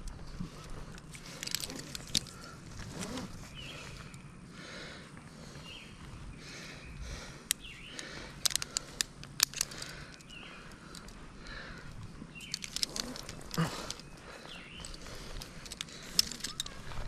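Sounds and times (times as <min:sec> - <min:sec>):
bird chirping: 0:00.0 - 0:04.6, 0:05.3 - 0:17.0.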